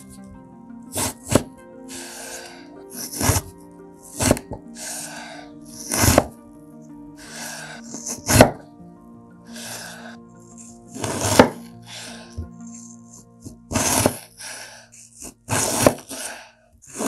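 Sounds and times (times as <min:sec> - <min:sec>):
background music with held tones: 0:00.0 - 0:17.0.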